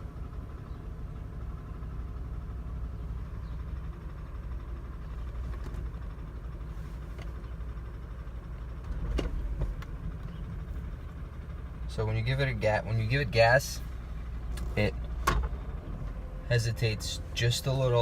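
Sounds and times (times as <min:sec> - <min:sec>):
car engine rough idling: 0:00.0 - 0:18.0.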